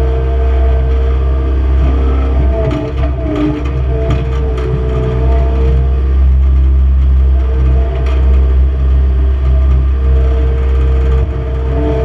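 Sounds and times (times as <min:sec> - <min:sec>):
loader engine running: 0:00.0 - 0:12.0
steady high whine: 0:00.0 - 0:12.0.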